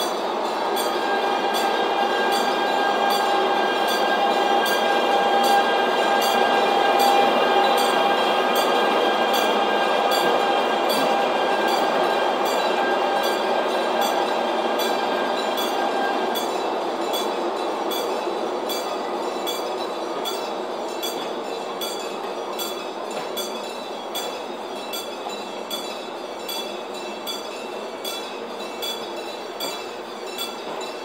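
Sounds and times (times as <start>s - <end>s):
train rumbling past: 0.0s - 31.0s
train wheel clicks: 0.0s - 31.0s.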